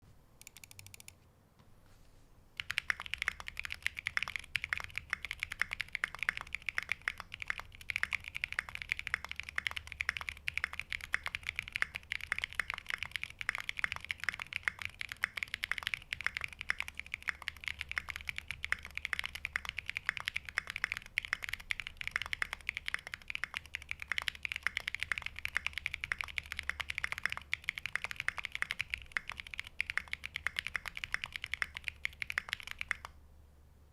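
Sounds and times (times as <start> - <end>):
fast mechanical keyboard typing: 0.4 - 1.1, 2.6 - 33.2.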